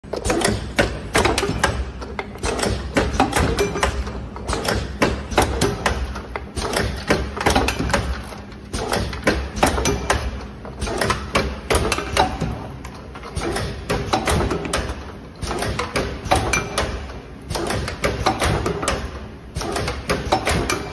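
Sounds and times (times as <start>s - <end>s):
machine clacks and knocks: 0.0s - 20.9s.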